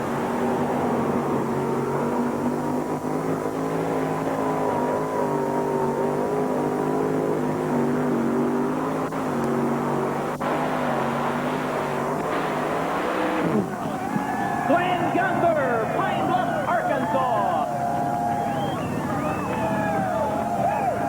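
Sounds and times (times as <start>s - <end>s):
tractor engine at high revs: 0.0s - 21.0s.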